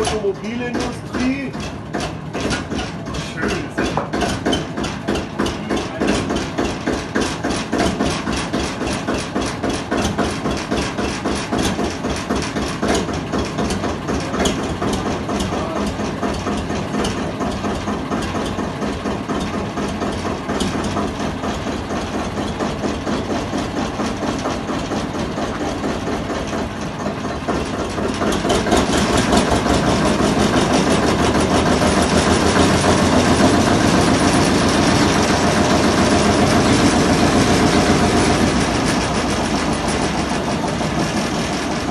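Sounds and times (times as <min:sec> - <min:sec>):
locomotive engine exhaust beat: 0:00.0 - 0:41.9.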